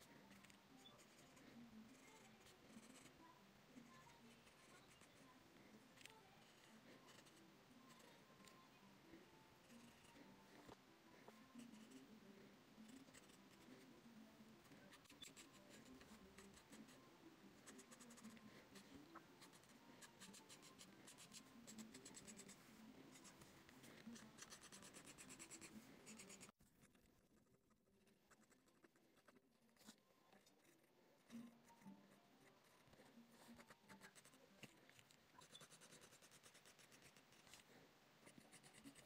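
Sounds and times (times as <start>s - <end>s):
pencil scratching on paper: 0.0s - 3.2s, 5.9s - 8.6s, 9.6s - 12.1s, 12.8s - 14.0s, 14.6s - 39.0s.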